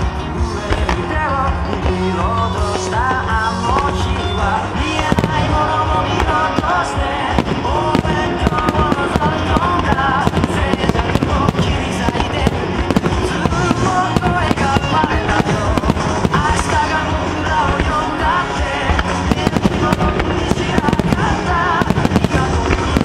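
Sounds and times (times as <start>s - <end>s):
fireworks bangs and crackles: 0.0s - 23.0s
music with singing: 0.0s - 23.0s.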